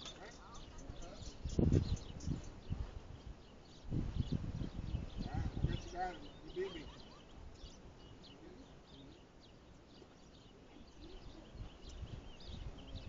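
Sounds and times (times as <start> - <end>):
low steady background: 0.0 - 13.0
small bird chirps: 0.0 - 13.0.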